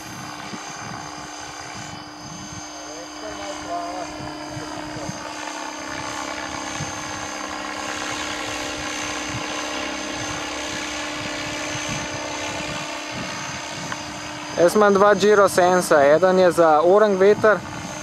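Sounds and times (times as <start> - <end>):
model helicopter motor whine: 0.0 - 18.0.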